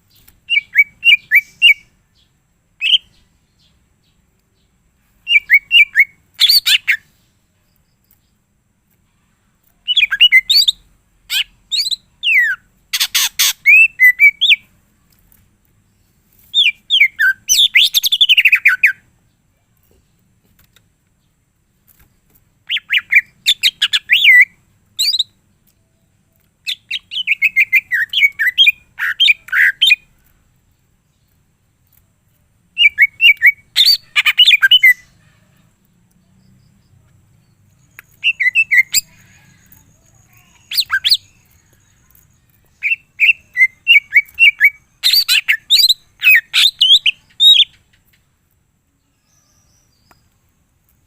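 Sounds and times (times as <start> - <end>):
bird singing varied chirps: 0.1 - 8.6, 9.4 - 51.0.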